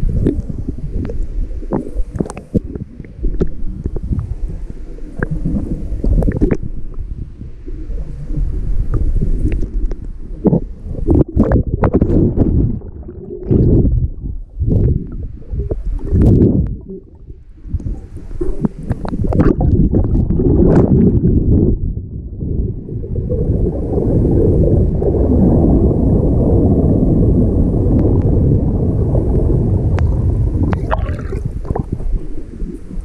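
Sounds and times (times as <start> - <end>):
muffled underwater rushing water: 0.0 - 33.0.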